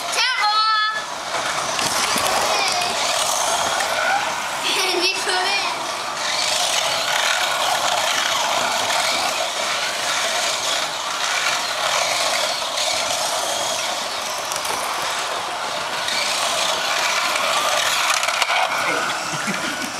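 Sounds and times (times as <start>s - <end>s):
slot car motors buzzing and whining: 0.0s - 19.9s.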